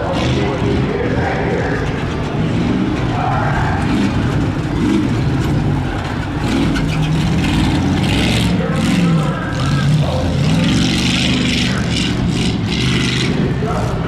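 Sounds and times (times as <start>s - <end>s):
pickup truck engine revving: 0.0s - 14.0s.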